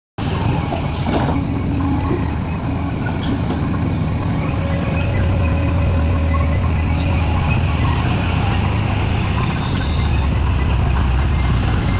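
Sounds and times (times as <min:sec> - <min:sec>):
heavy diesel engine running: 0:00.2 - 0:11.9.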